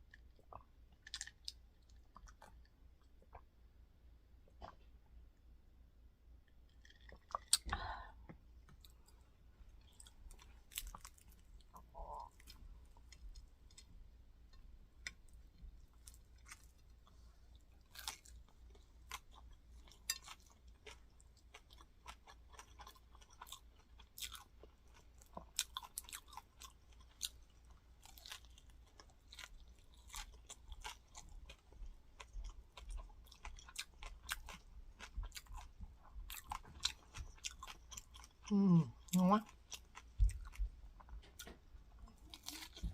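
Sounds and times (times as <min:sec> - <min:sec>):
chewing crispy rice cake: 0:00.0 - 0:03.5, 0:06.5 - 0:08.0, 0:08.7 - 0:42.9.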